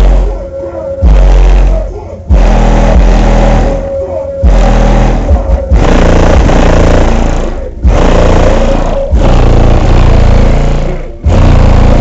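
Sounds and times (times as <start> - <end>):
distorted subwoofer bass rap: 0.0 - 12.0.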